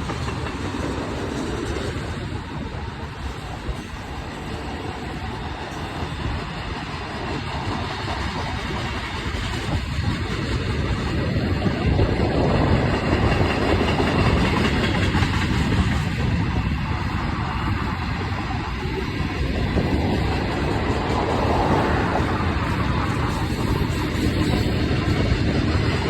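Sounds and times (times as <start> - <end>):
diesel locomotive engines rumbling: 0.0 - 26.0
freight train rolling past: 0.0 - 26.0.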